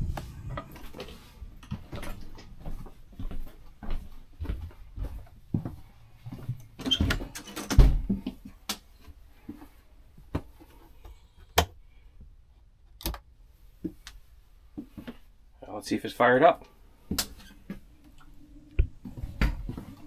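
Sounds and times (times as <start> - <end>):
footsteps inside trailer: 0.0 - 11.4, 12.2 - 20.0.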